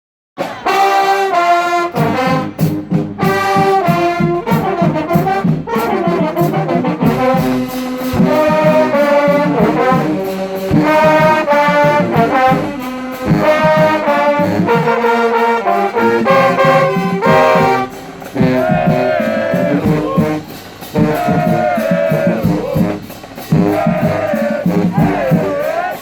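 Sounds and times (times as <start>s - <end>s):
marching drum beat: 0.4s - 26.0s
trumpets and trombones: 0.4s - 26.0s.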